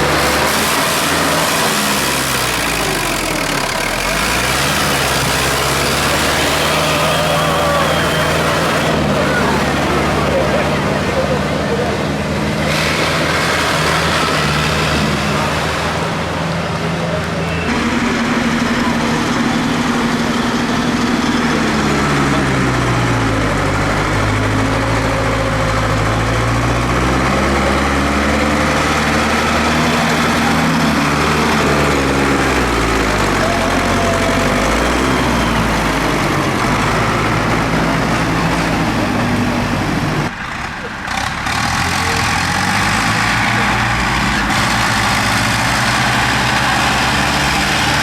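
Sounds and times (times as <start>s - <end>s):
tractor engines running: 0.0s - 48.0s.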